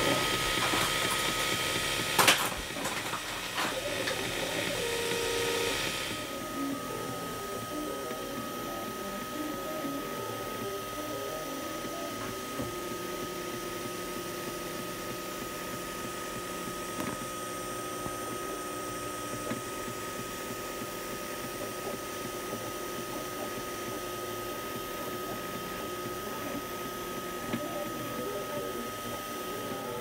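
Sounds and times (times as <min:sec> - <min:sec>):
cooling fan high whine: 0:00.0 - 0:30.0
stepper motors whirring: 0:00.0 - 0:30.0.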